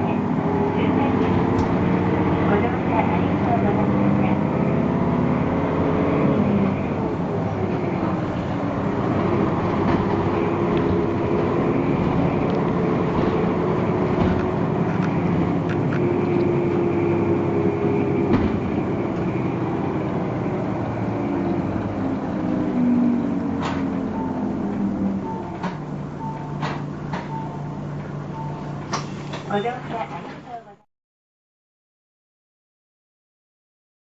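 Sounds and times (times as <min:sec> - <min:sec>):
bus engine running: 0:00.0 - 0:30.8.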